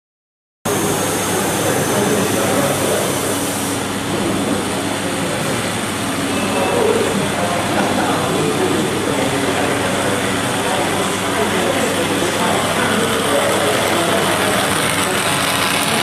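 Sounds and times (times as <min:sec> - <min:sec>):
steam locomotive hiss and rumble: 0:00.7 - 0:16.0.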